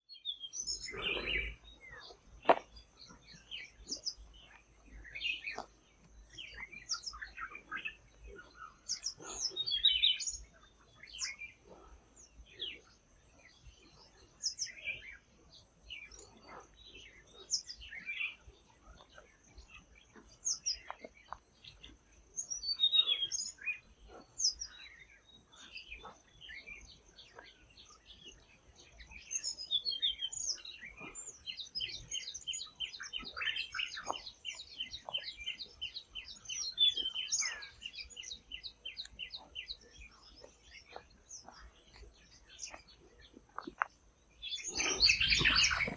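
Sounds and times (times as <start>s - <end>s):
bird chirps and trills: 0.1s - 45.9s.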